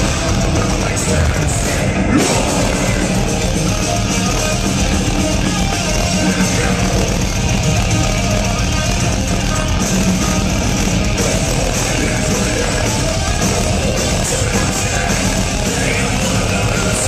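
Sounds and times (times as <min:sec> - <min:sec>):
metalcore band playing live: 0:00.0 - 0:17.0.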